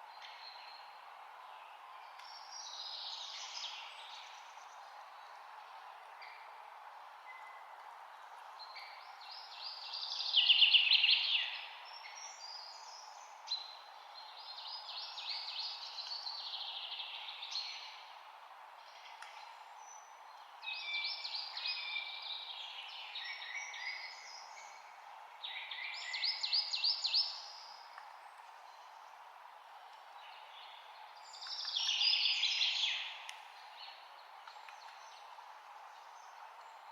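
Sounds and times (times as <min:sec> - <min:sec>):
steady background hiss: 0:00.0 - 0:36.9
songbirds trilling and chirping: 0:00.1 - 0:36.9.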